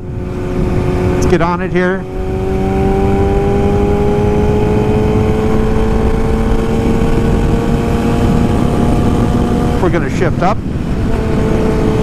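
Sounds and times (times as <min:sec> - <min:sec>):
sport bike engine accelerating: 0:00.0 - 0:12.0
wind rush: 0:00.0 - 0:12.0.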